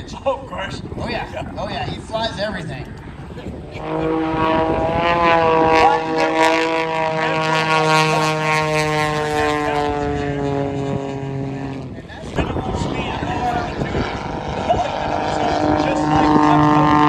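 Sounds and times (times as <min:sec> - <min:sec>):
propeller plane passing overhead: 0:00.0 - 0:17.0.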